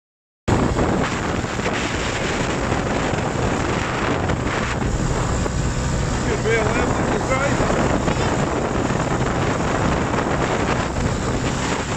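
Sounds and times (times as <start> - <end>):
wind buffeting microphone: 0.5 - 11.9.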